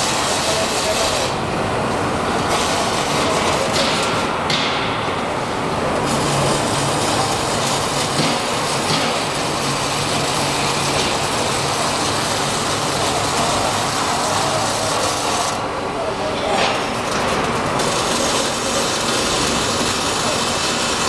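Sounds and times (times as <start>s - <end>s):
welding arc crackling hiss: 0.0s - 4.3s, 6.0s - 15.6s, 16.8s - 21.0s.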